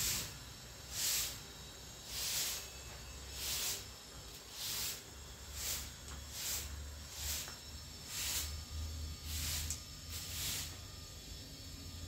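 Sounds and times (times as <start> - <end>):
broom sweeping tiled paving: 0.0 - 10.9.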